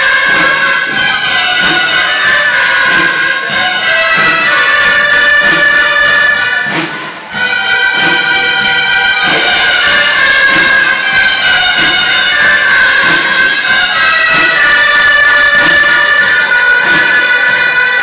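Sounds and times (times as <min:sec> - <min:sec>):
drum keeping time: 0:00.0 - 0:18.0
shawms playing a melody: 0:00.0 - 0:18.0.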